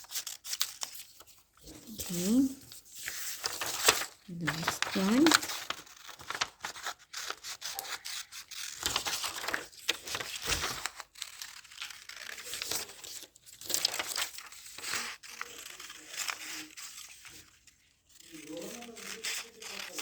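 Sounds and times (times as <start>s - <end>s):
paper rustling and crinkling: 0.0s - 20.0s
scissors cutting paper: 1.8s - 17.5s, 18.2s - 20.0s.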